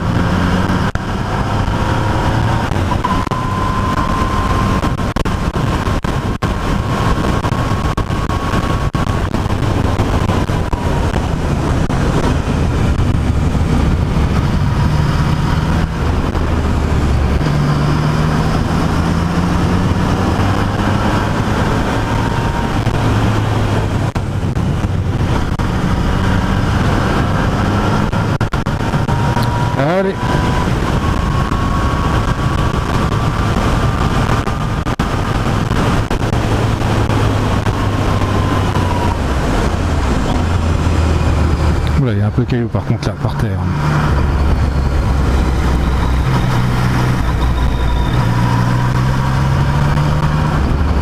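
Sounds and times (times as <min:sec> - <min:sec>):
motorcycle engine accelerating: 0:00.0 - 0:51.0
wind rush on microphone: 0:00.0 - 0:51.0.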